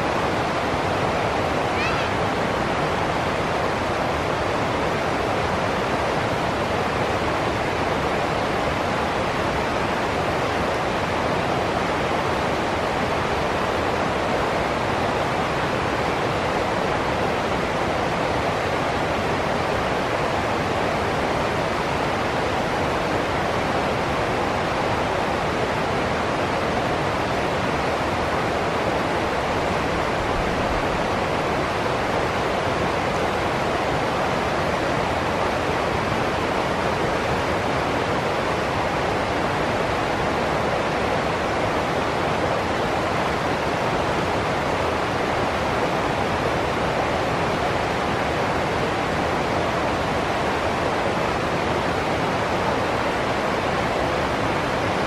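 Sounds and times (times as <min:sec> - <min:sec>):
stream rushing over rapids: 0:00.0 - 0:55.0.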